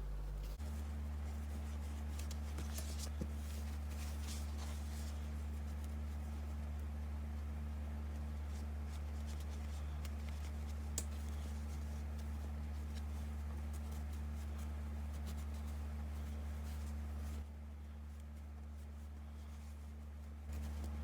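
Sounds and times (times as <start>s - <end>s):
steady low hum: 0.0s - 21.0s
rustling of craft materials: 0.3s - 21.0s.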